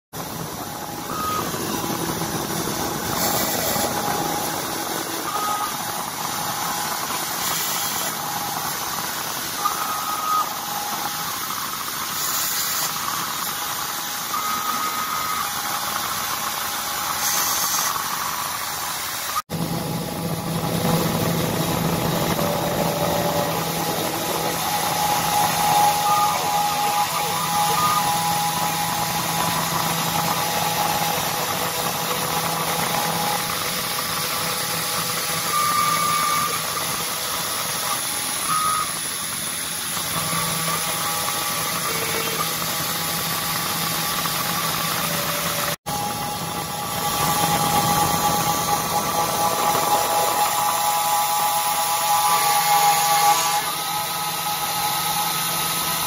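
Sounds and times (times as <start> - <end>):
short higher machine tones: 0.2 - 18.5, 19.3 - 56.0
router spindle milling circuit board: 0.2 - 56.0.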